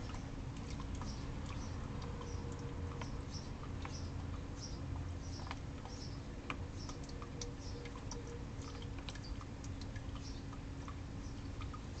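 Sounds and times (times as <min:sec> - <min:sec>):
low hum and rumble: 0:00.0 - 0:12.0.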